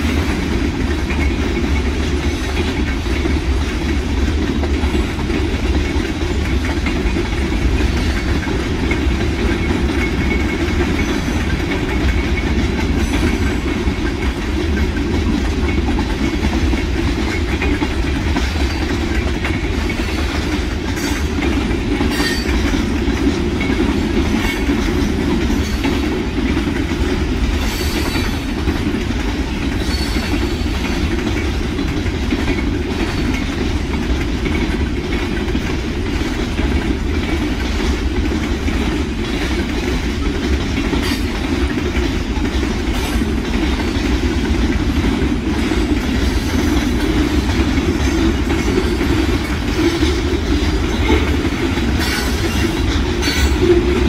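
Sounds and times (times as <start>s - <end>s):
train wheels rumbling on rail: 0.0s - 54.0s
wheels clicking over rail joints: 0.0s - 54.0s.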